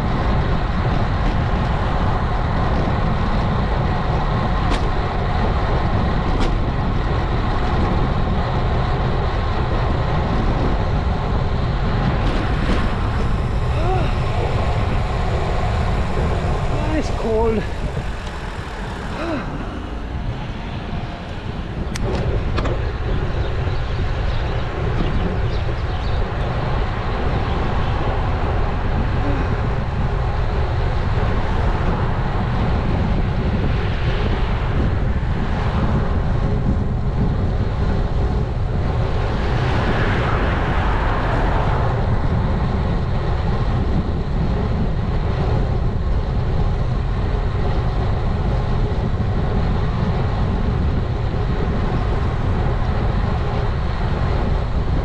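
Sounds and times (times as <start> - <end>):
bike tyre noise on road: 0.0 - 55.0
wind buffeting microphone: 0.0 - 55.0.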